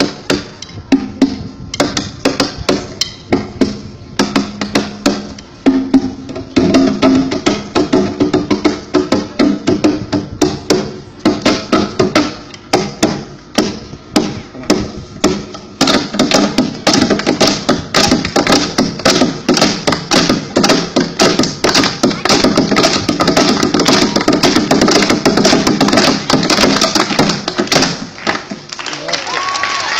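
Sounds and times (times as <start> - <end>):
sharp knocks: 0.0 - 28.4
steady pitched background hum: 0.0 - 29.1.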